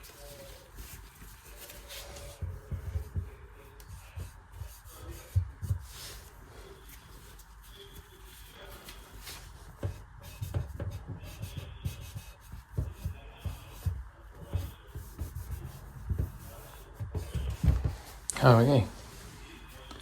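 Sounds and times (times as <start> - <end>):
hands rubbing and scraping: 0.0 - 20.0.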